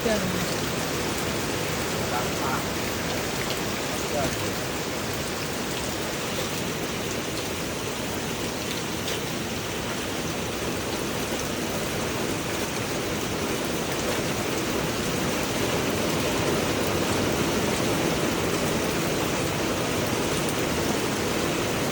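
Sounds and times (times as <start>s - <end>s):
rain falling on a rooftop: 0.0s - 21.9s.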